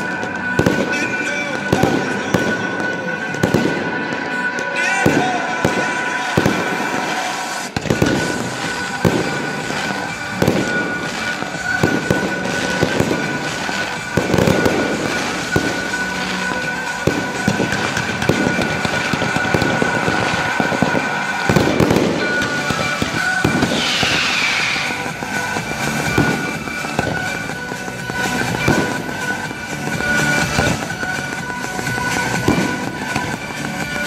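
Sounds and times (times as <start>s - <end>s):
fireworks crackling: 0.0s - 34.0s
fireworks shells bursting: 0.0s - 34.0s
music playing: 0.0s - 34.0s.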